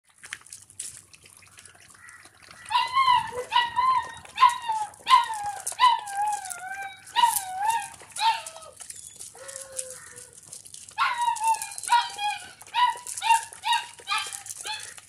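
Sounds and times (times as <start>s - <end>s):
puppies whining: 2.7s - 15.0s.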